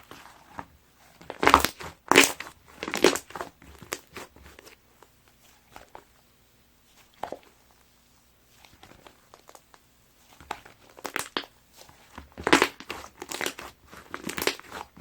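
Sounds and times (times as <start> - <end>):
slime crackling and crinkling: 0.0 - 6.2, 8.5 - 15.0
slime squishing: 0.0 - 6.2, 6.8 - 15.0.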